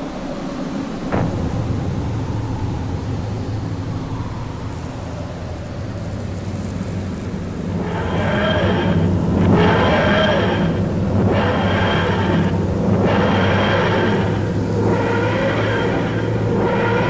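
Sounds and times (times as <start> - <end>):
steady low rumble: 0.0 - 17.0
wavering rising and falling tone: 1.1 - 17.0.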